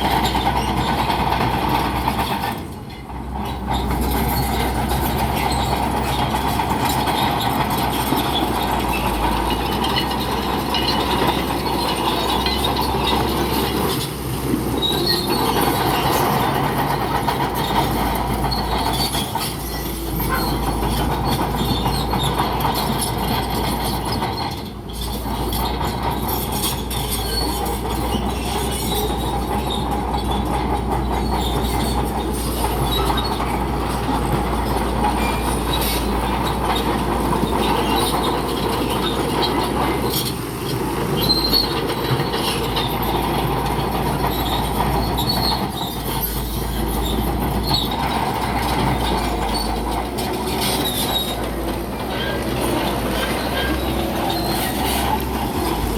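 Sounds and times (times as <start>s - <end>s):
diesel engine running: 0.0s - 55.9s
steel tracks squealing and clanking: 0.0s - 55.9s.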